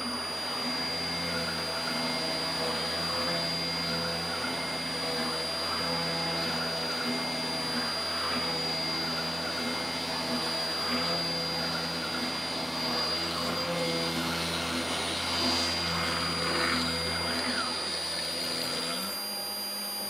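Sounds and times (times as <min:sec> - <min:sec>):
drill bit cutting wood: 0:00.0 - 0:20.0
spindle motor whine: 0:00.0 - 0:20.0.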